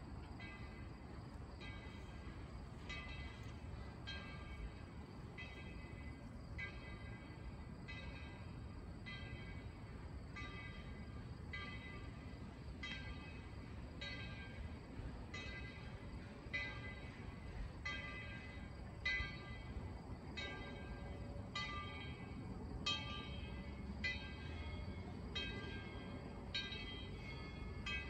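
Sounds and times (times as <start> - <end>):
locomotive bell ringing: 1.6 - 28.0.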